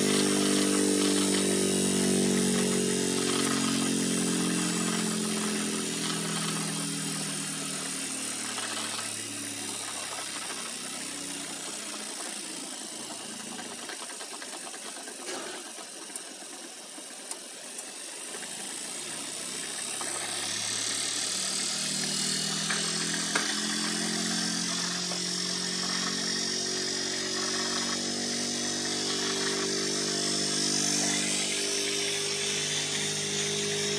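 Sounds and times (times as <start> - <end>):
motor spinning grinding stone: 0.0 - 33.9.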